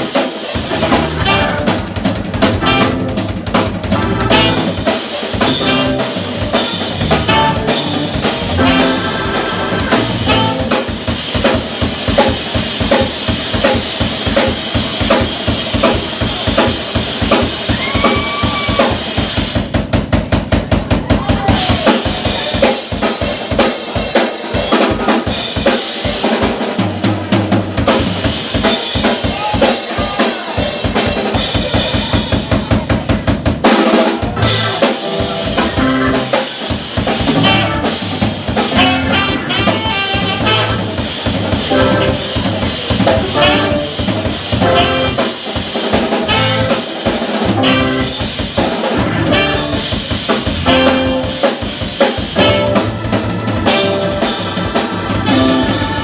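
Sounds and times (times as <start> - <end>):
drum strikes and rimshots: 0.0 - 56.0
live instrumental band: 0.0 - 56.0.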